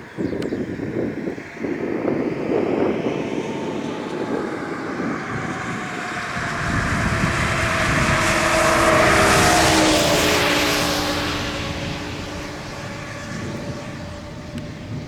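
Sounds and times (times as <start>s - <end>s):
engine humming: 0.4s - 15.0s.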